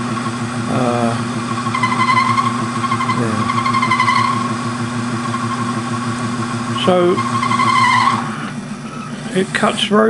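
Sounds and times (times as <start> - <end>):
high-pitched cutting whine: 0.0 - 10.0
lathe motor hum: 0.0 - 10.0.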